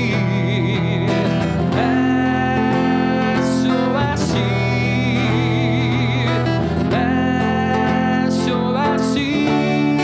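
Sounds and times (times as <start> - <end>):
acoustic guitar: 0.0 - 10.0
man singing: 0.0 - 10.0.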